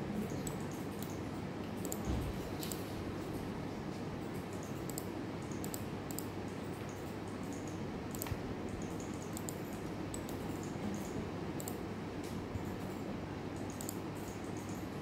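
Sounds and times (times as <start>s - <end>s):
low room hum: 0.0s - 15.0s
computer mouse clicks: 0.2s - 2.9s, 4.3s - 15.0s.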